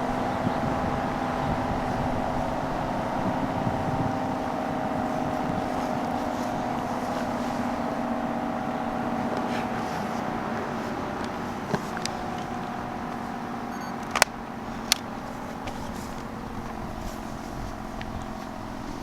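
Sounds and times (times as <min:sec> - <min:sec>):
warning siren low tone: 0:00.0 - 0:19.0.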